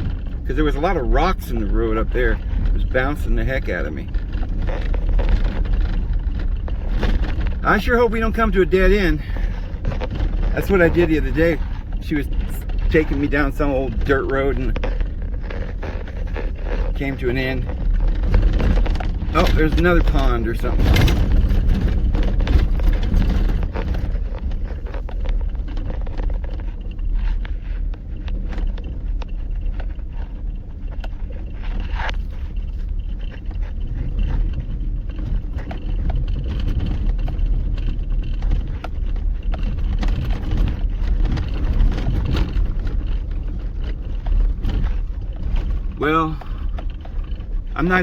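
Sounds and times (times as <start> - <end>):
knocks and rattles: 0.0 - 48.0
truck engine and tyre rumble: 0.0 - 48.0.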